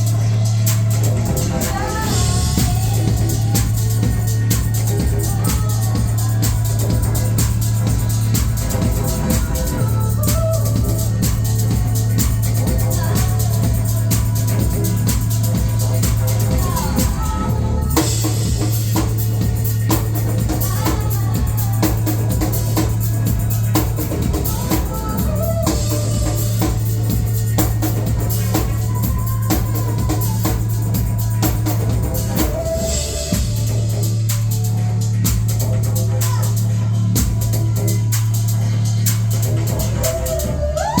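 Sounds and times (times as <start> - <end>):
drum kit: 0.0 - 41.0
heavy sustained bass: 0.0 - 41.0.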